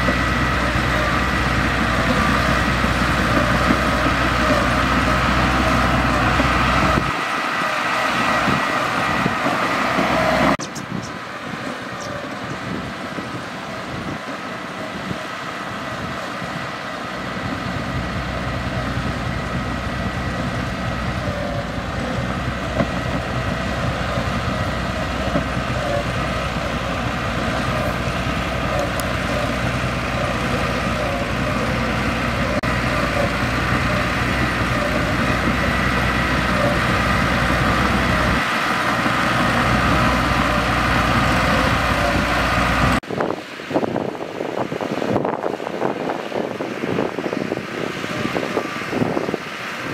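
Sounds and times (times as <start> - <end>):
bulldozer diesel engine rumbling: 0.0 - 49.9.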